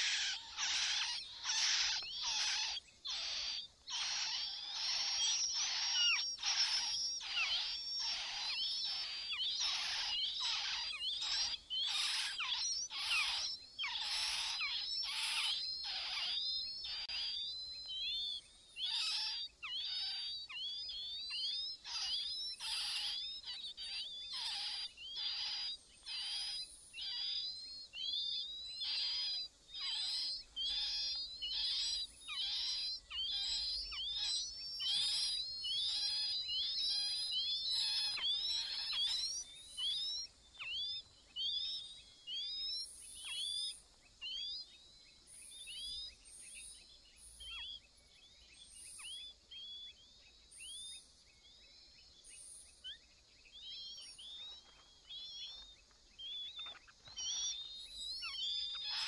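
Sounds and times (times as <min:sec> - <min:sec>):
nestlings begging with high cheeps: 0:00.0 - 0:59.0.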